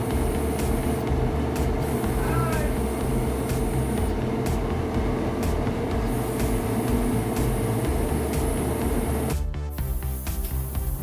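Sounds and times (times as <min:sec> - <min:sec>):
airbrush hissing: 0:00.0 - 0:04.7, 0:05.4 - 0:11.0
extractor fan humming: 0:00.0 - 0:11.0.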